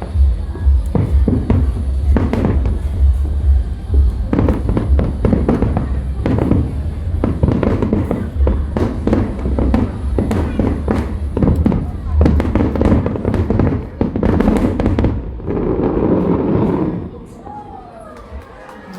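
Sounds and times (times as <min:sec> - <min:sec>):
deep rumble: 0:00.0 - 0:17.2
fireworks bursting: 0:00.0 - 0:17.6.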